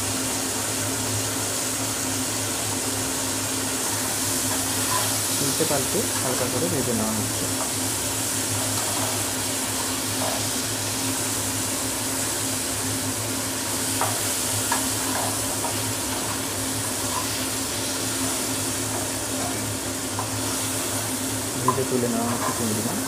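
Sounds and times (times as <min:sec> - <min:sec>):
prawns sizzling in oil: 0:00.0 - 0:23.0.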